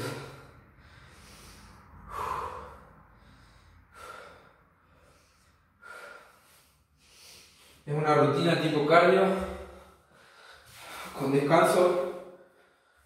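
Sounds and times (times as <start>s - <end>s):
man breathing heavily: 0.0s - 7.9s, 8.9s - 13.0s.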